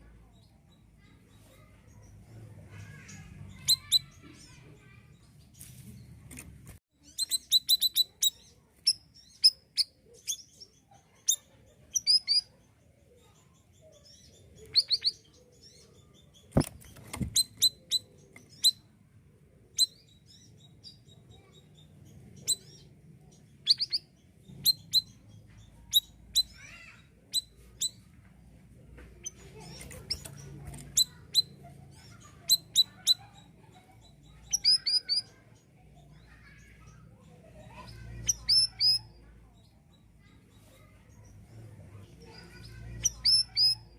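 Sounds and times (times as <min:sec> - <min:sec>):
bird chirping: 0:00.1 - 0:43.9.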